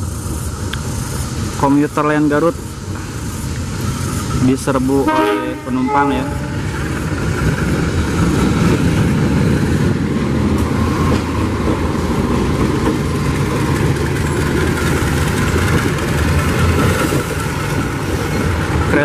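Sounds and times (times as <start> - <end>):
diesel locomotive engine humming: 0.0 - 19.0.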